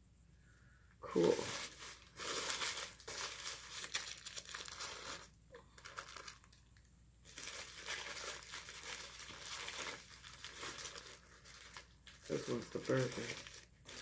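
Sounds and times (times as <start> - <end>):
paper wrapper crinkling: 1.2 - 14.0.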